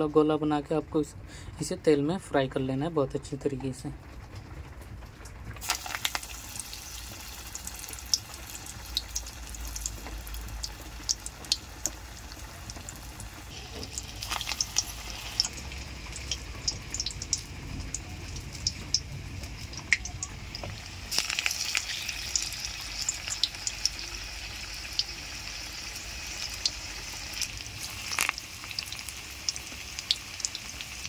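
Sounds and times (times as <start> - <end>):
food deep-frying in oil: 4.1 - 31.0.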